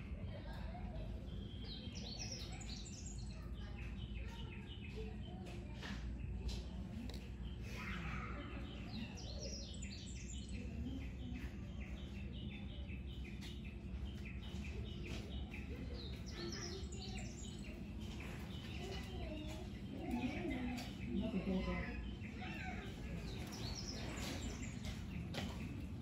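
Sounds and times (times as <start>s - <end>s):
small bird chirping: 0.4s - 26.0s.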